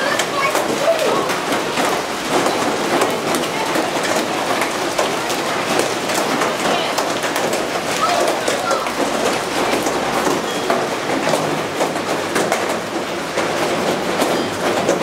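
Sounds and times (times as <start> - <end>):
hail pelting pavement: 0.0 - 15.0.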